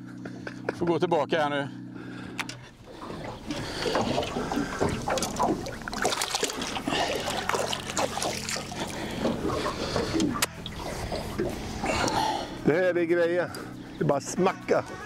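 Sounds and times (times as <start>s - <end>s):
low steady hum: 0.0s - 15.0s
water splashing and trickling: 2.6s - 15.0s.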